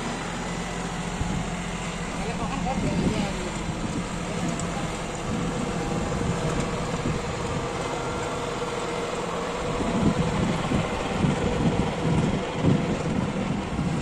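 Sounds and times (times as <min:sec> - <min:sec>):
tractor diesel engine rumbling: 0:00.0 - 0:14.0.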